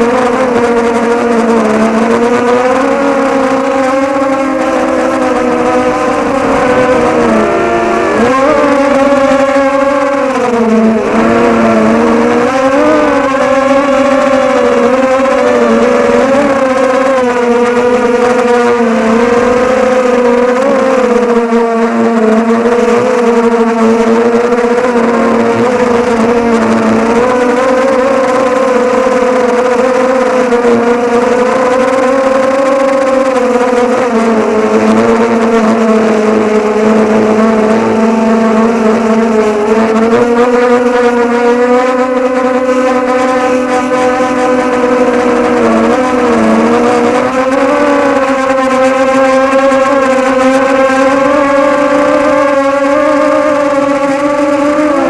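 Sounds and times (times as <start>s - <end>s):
quadcopter propellers whining: 0.0s - 55.0s.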